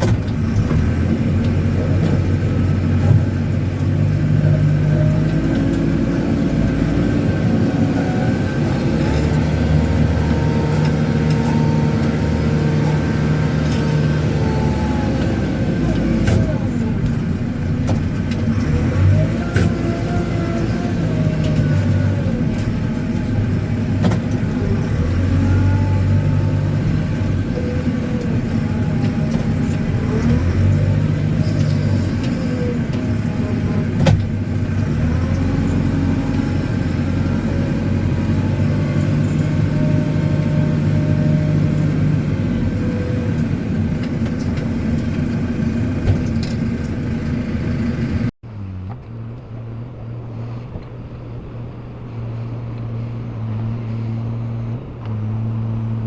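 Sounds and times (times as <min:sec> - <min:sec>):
diesel engine running: 0:00.0 - 0:56.0
wind: 0:00.0 - 0:56.0.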